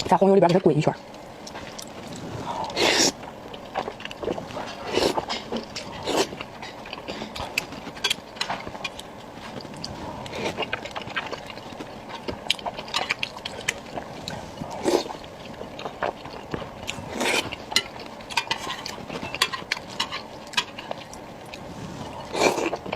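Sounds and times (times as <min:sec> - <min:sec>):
wet chewing and mouth clicks: 0:01.4 - 0:22.9.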